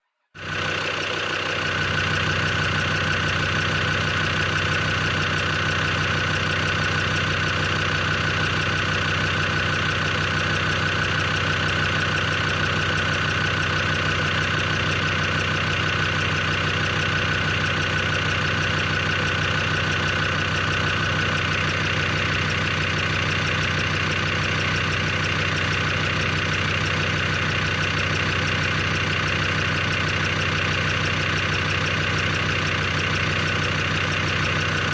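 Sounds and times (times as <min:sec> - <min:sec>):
diesel engine idling: 0:00.4 - 0:34.9
engine ticking and tapping: 0:00.4 - 0:34.9.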